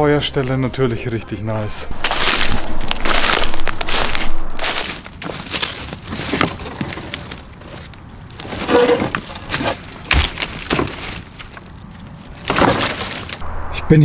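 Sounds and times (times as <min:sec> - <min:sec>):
sticks cracking and snapping: 0:01.9 - 0:13.4.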